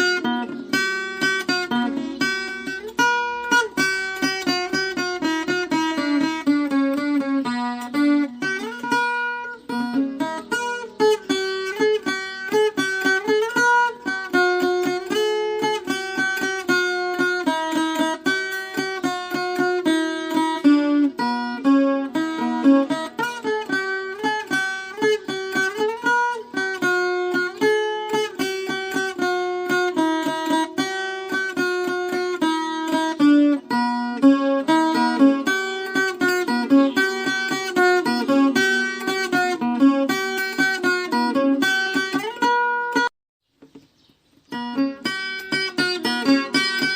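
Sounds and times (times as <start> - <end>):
plucked folk guitar melody: 0.0 - 46.9.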